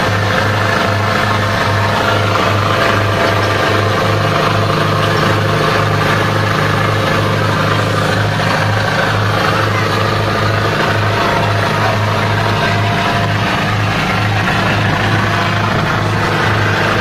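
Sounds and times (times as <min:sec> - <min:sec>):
boat engine throbbing: 0:00.0 - 0:17.0
rush of churning wake: 0:00.0 - 0:17.0.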